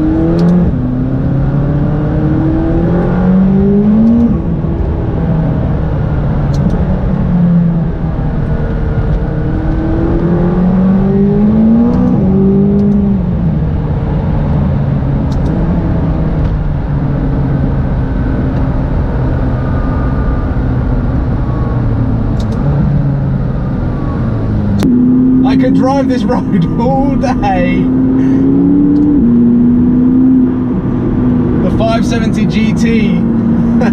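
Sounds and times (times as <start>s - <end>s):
car engine revving from inside: 0.0s - 32.1s
road noise: 0.0s - 33.9s.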